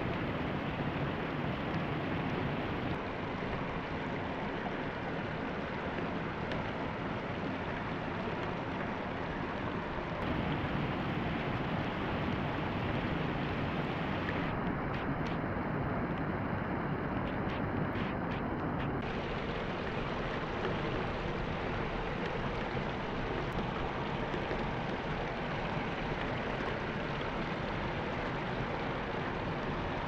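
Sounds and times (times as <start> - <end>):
water rushing over weir: 0.0 - 30.0.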